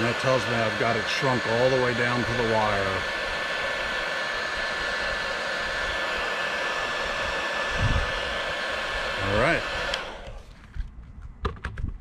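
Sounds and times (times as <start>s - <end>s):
heat gun blowing with thin whine: 0.0s - 10.8s.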